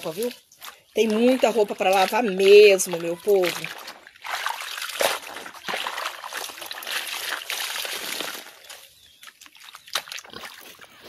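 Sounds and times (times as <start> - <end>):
water splashing hand washing clothes: 0.0 - 11.0.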